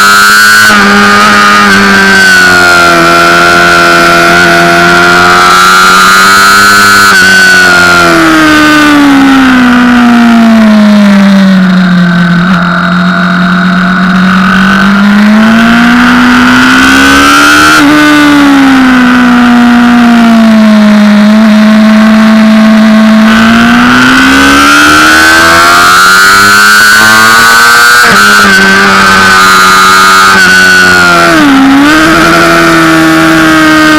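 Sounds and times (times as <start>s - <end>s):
motorcycle engine at speed: 0.0s - 33.9s.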